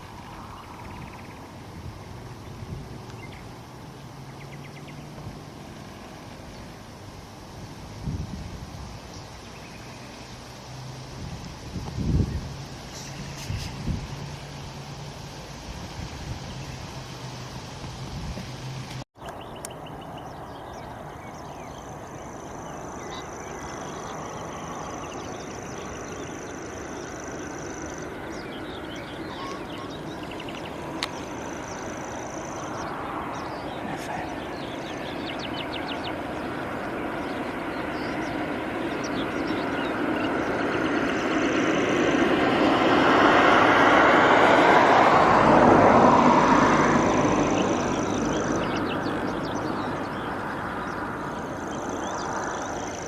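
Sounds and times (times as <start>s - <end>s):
birds chirping: 0.0s - 7.8s, 8.4s - 53.0s.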